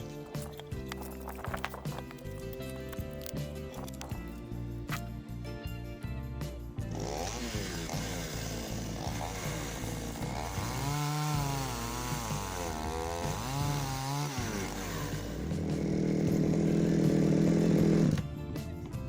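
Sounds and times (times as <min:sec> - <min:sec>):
chainsaw cutting wood: 0:00.0 - 0:05.1, 0:06.9 - 0:18.3.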